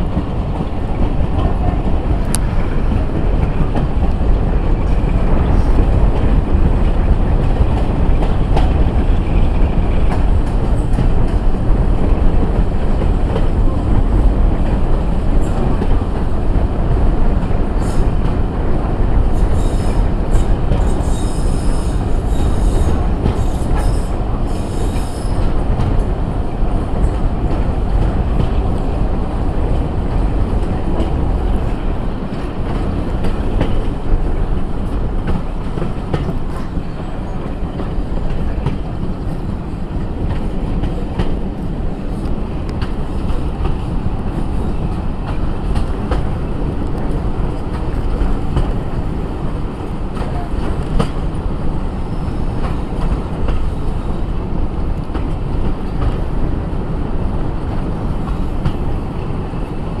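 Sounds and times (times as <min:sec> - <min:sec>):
train wheels rumbling on track: 0:00.0 - 1:00.0.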